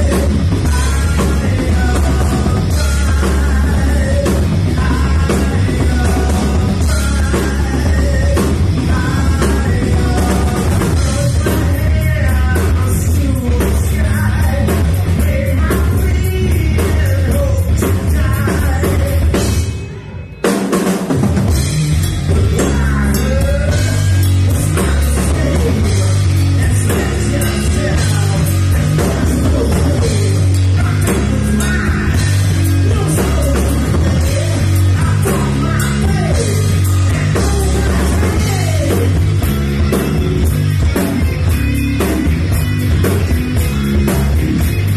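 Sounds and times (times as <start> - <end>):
person singing: 0.0 - 20.5, 22.2 - 39.3
bass guitar: 0.0 - 44.9
drum kit: 0.0 - 44.9
electric guitar: 0.0 - 44.9.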